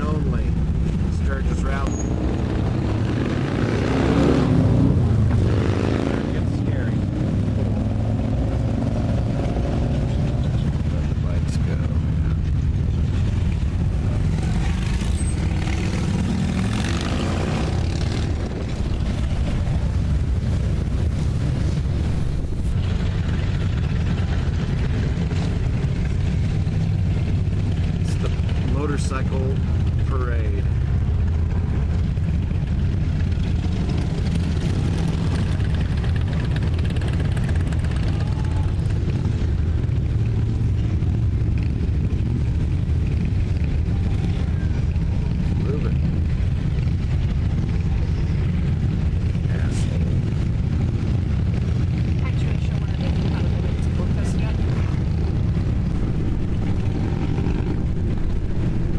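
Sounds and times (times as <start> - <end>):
motorcycle engines rumbling past: 0.0 - 58.9.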